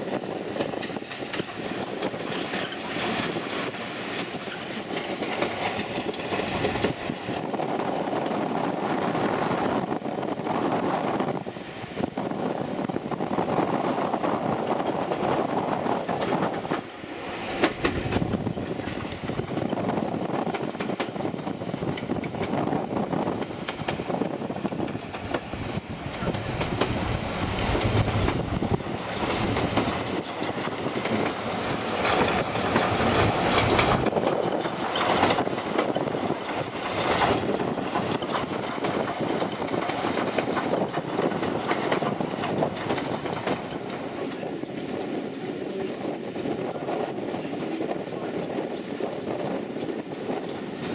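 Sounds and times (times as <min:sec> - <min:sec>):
train wheels clattering over rail joints: 0:00.0 - 0:50.9.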